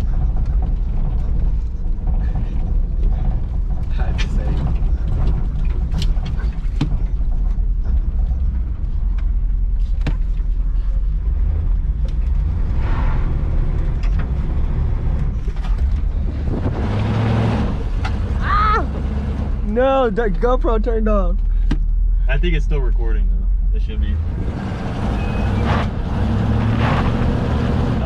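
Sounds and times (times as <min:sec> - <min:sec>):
car engine rumbling: 0:00.0 - 0:28.0.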